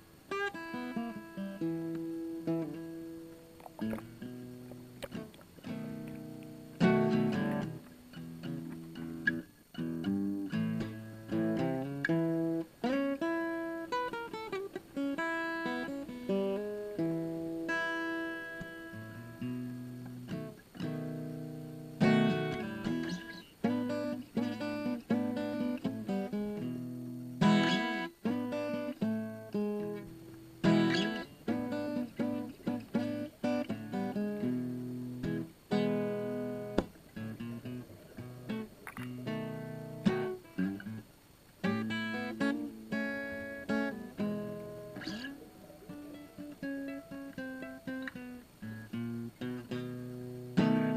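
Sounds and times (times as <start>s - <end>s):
acoustic guitar music: 0.0s - 50.9s.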